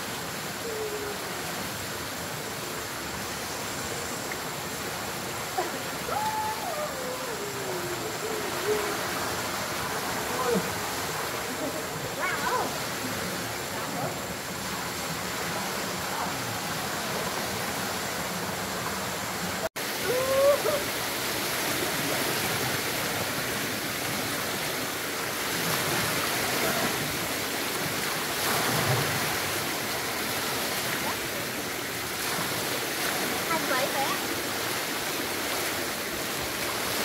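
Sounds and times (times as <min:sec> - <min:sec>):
stream water rushing: 0:00.0 - 0:37.0.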